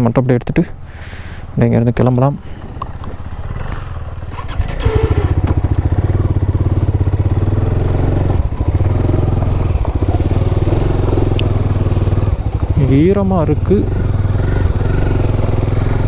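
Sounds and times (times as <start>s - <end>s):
motorcycle engine idling: 0.7s - 16.0s.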